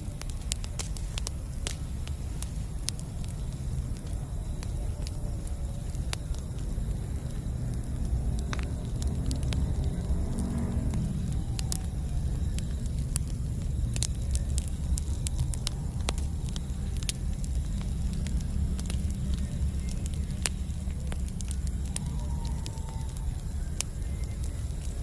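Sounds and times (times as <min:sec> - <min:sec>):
fire popping: 0:00.0 - 0:25.0
low fire rumble: 0:00.0 - 0:25.0
wood crackling: 0:00.0 - 0:25.0.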